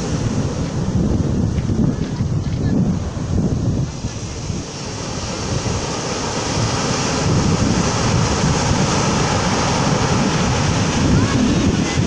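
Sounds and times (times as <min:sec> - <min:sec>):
surf washing up pebble beach: 0:00.0 - 0:12.0
wind rumble on microphone: 0:00.0 - 0:12.0.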